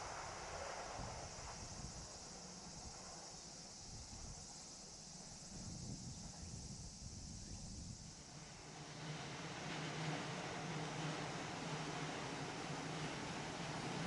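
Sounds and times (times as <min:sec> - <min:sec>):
insects chirring: 0:00.0 - 0:14.0
wind rumble on microphone: 0:00.0 - 0:14.0.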